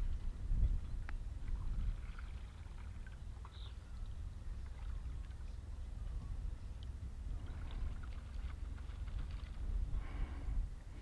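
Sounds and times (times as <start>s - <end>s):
low wind rumble on microphone: 0.0s - 11.0s
water lapping: 0.0s - 11.0s.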